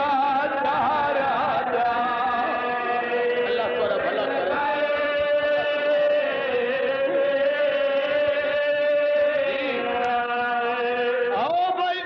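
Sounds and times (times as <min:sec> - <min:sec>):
man chanting through loudspeakers: 0:00.0 - 0:12.0.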